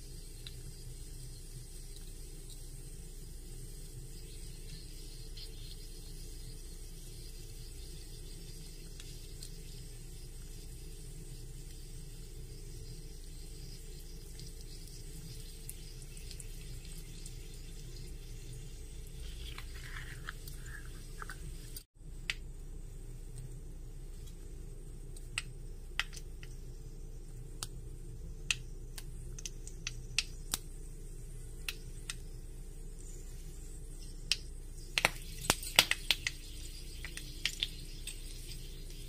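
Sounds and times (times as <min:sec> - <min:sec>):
seeds popping in hot oil: 0:00.0 - 0:22.5, 0:23.2 - 0:39.0
oil sizzling with spices: 0:00.0 - 0:39.0.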